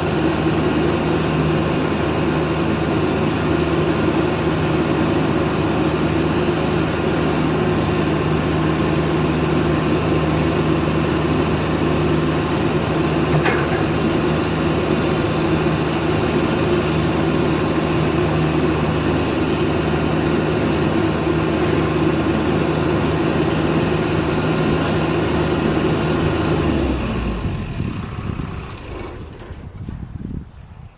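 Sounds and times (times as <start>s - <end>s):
excavator diesel engine running: 0.0s - 30.1s.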